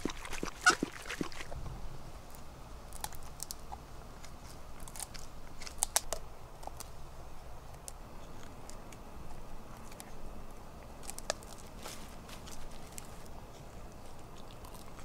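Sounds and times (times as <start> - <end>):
dog gnawing a stick: 0.0 - 1.6, 2.2 - 15.0.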